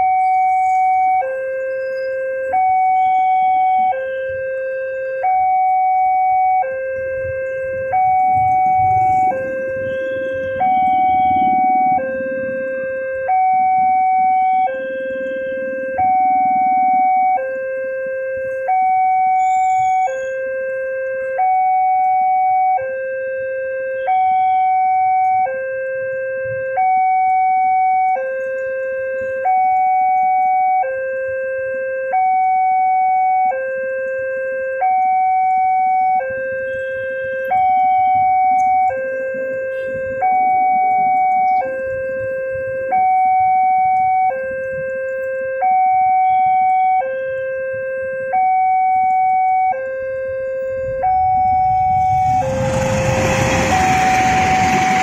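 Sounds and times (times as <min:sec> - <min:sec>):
level crossing two-tone alarm: 0:00.0 - 0:55.0.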